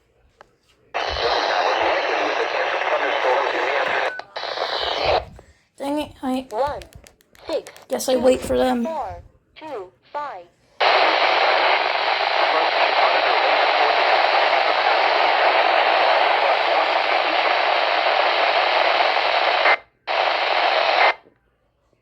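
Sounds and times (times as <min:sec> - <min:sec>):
radio static hiss: 0:00.9 - 0:05.5, 0:07.4 - 0:21.2.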